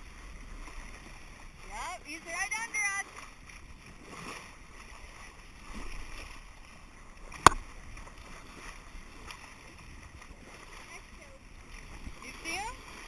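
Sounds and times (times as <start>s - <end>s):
water splashing along boat bow: 0.0s - 13.0s.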